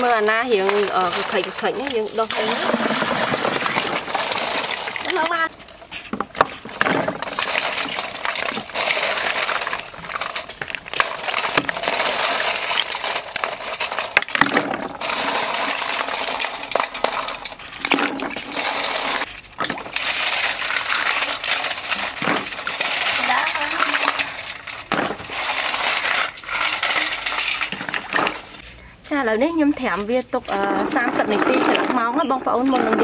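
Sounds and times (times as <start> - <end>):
scouring pad scrubbing snails: 0.0 - 33.0
water sloshing in a metal bowl: 0.0 - 33.0.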